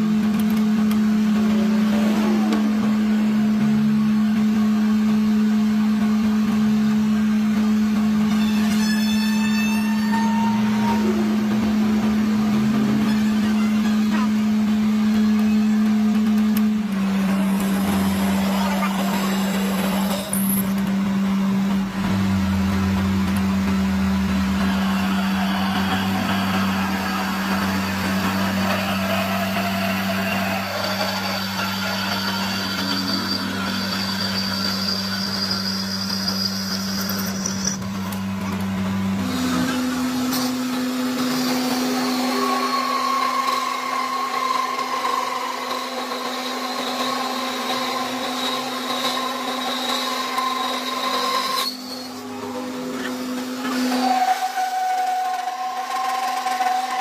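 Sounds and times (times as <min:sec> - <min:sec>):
workshop machinery humming: 0:00.0 - 0:57.0.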